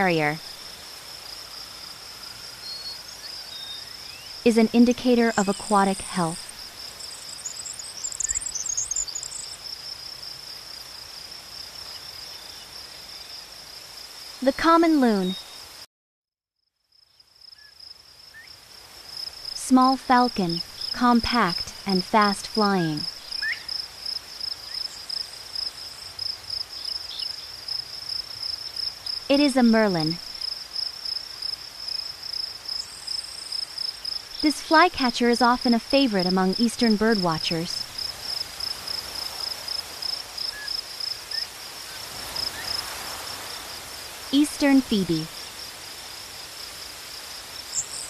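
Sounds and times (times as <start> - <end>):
insects trilling: 0.0 - 15.8, 16.9 - 48.0.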